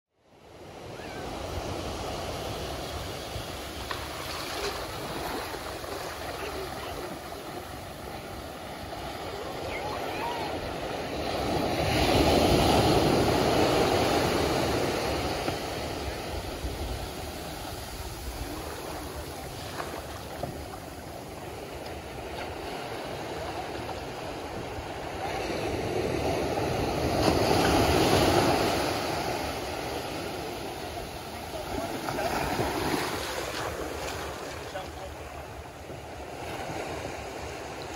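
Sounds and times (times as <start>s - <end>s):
surf breaking on sandy beach: 1.2s - 37.9s.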